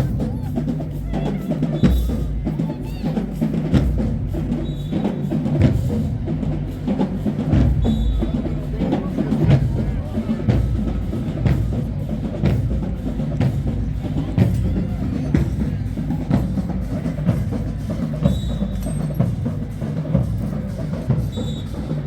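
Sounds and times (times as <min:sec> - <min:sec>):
bass drums: 0:00.0 - 0:22.0.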